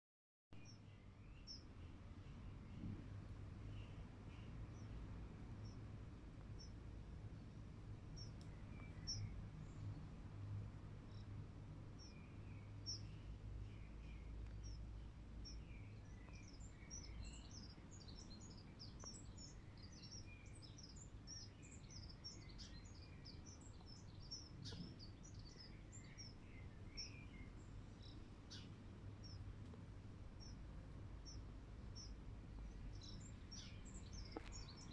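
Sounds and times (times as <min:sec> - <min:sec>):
small birds chirping: 0:00.6 - 0:34.9.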